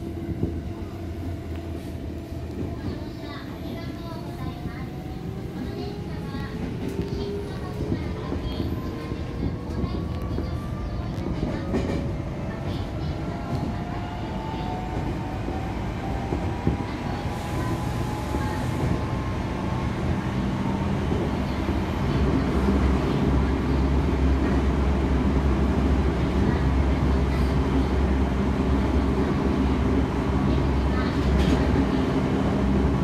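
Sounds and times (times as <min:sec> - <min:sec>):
train running noise: 0:00.0 - 0:33.0.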